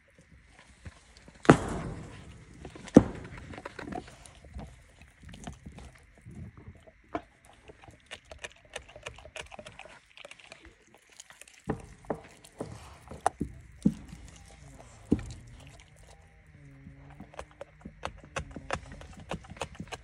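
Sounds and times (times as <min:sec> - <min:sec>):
dog gnawing on a bone: 0:00.1 - 0:20.0.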